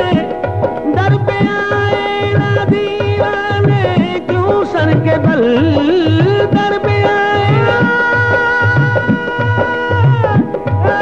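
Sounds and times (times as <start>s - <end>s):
steady drum beat: 0.0s - 11.0s.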